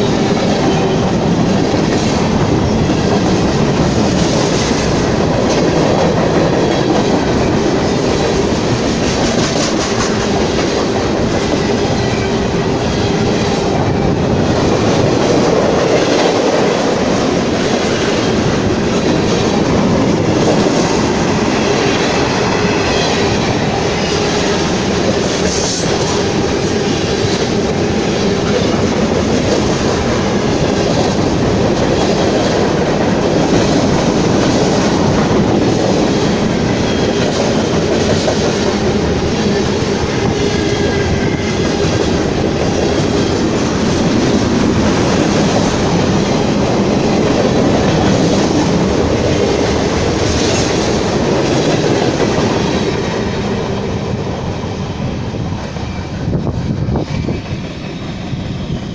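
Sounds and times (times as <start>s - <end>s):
steel wheels on rails: 0.0s - 58.9s.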